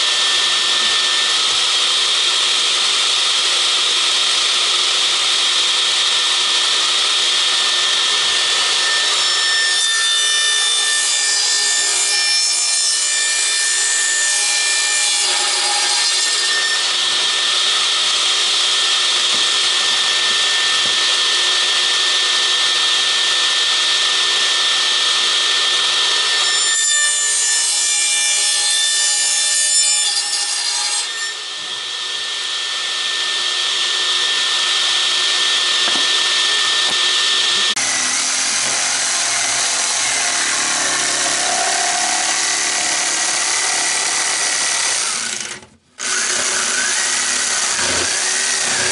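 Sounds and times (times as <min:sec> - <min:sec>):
power tool running: 0:00.0 - 0:12.2, 0:12.9 - 0:26.4, 0:31.3 - 0:48.9
electric saw cutting plywood: 0:00.0 - 0:48.9.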